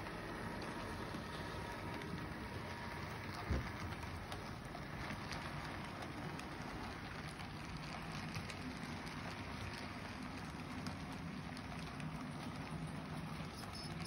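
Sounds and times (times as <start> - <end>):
model train rattling hum: 0.0 - 14.0
wheels clicking over rail joints: 0.0 - 14.0.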